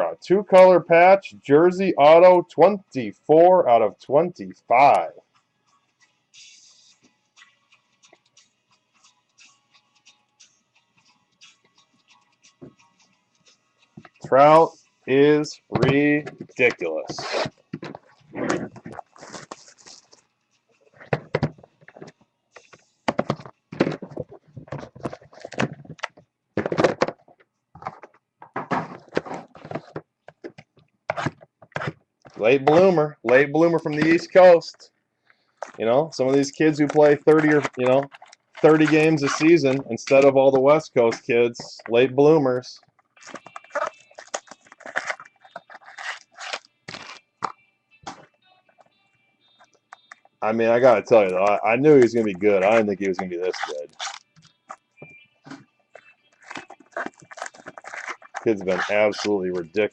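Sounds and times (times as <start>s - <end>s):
cards scraping and rustling: 4.9s - 27.2s, 27.8s - 34.5s, 35.6s - 42.1s, 42.8s - 48.3s, 49.9s - 54.8s, 55.5s - 59.9s.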